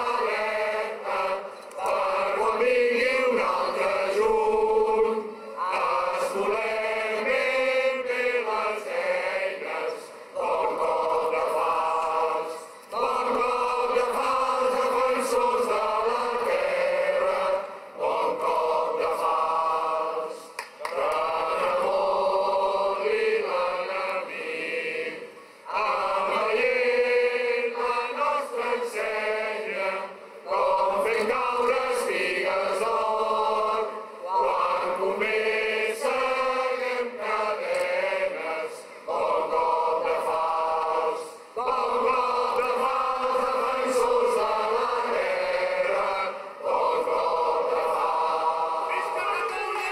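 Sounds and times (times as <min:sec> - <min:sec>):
crowd singing in unison: 0:00.0 - 0:49.9.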